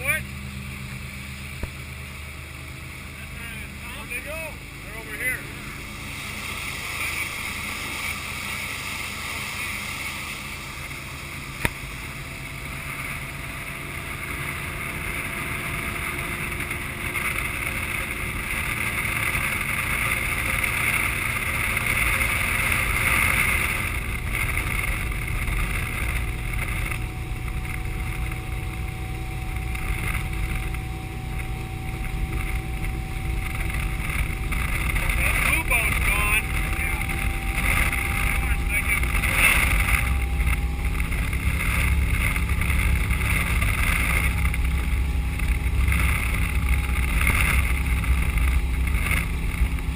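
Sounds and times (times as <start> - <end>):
boat engine drone: 0.0 - 49.9
wind and water rushing: 0.0 - 49.9.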